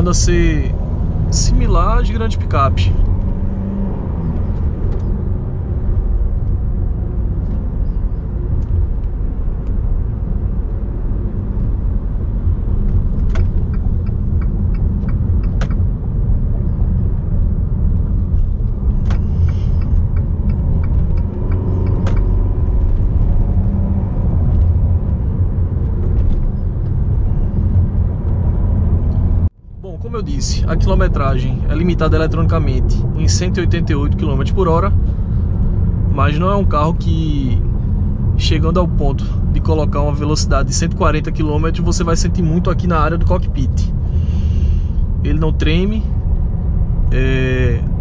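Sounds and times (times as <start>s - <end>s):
engine and road rumble: 0.0s - 48.0s.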